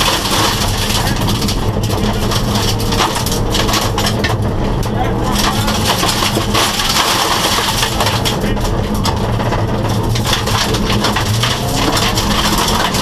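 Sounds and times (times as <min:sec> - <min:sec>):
car engine running hard: 0:00.0 - 0:13.0
gravel clattering against underside: 0:00.0 - 0:13.0.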